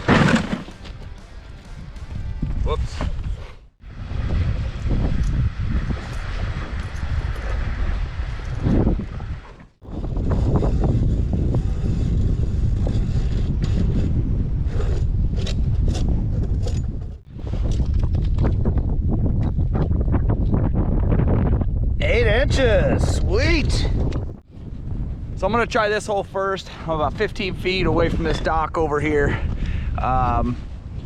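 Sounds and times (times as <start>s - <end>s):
wind buffeting microphone: 1.4s - 31.0s.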